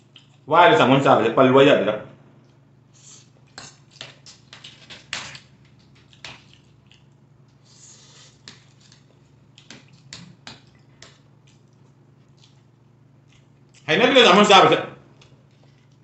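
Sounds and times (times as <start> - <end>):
chewing and mouth smacks: 0.0 - 0.5, 2.4 - 13.9, 15.1 - 16.0.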